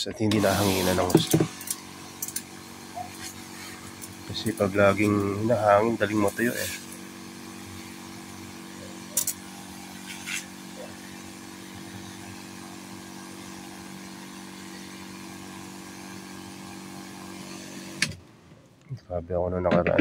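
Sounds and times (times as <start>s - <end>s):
motor humming: 0.1s - 18.2s.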